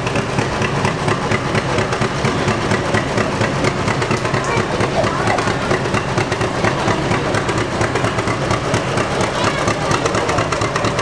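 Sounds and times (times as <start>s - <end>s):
tractor engine exhaust popping: 0.0s - 11.0s.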